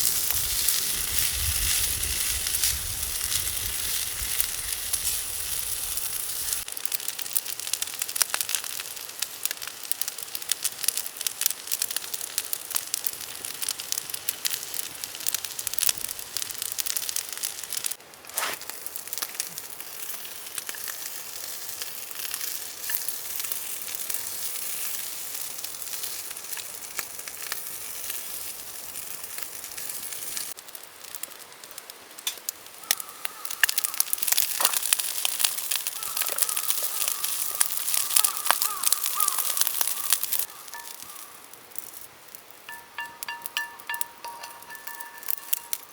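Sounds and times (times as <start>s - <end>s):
rice sizzling in a pan: 0.0s - 45.9s.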